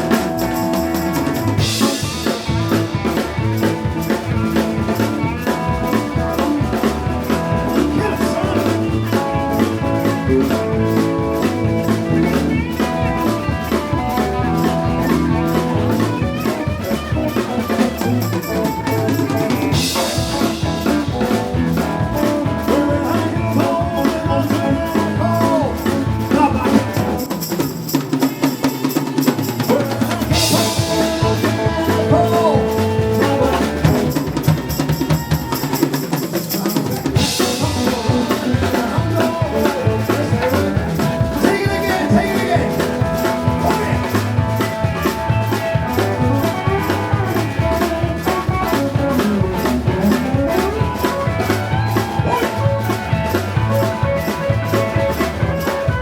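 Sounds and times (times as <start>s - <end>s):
drum kit beat: 0.0s - 56.0s
live band playing: 0.0s - 56.0s.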